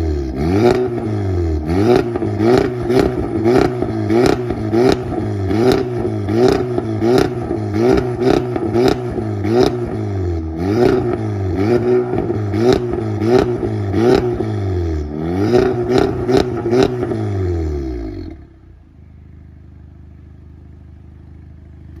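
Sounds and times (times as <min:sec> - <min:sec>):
car engine revving: 0:00.0 - 0:18.7
car engine idling: 0:00.0 - 0:22.0.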